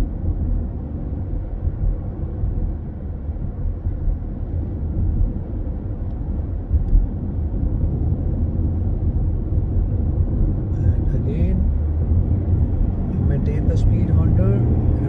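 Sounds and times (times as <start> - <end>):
tyre and engine rumble: 0.0 - 15.0.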